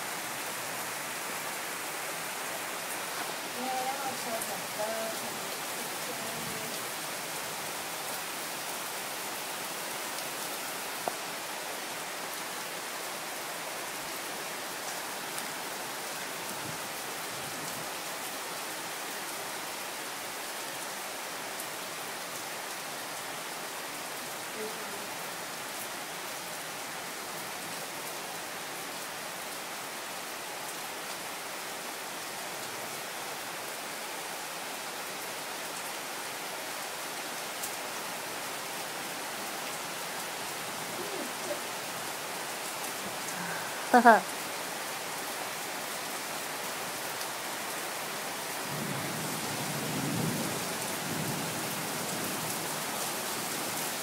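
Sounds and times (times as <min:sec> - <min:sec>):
rain pouring: 0:00.0 - 0:54.0.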